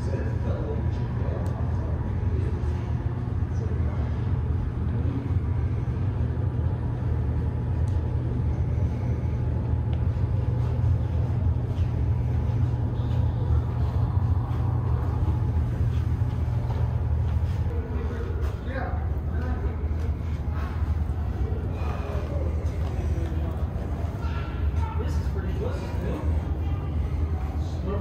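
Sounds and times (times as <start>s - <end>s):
low indoor room rumble: 0.0s - 28.0s.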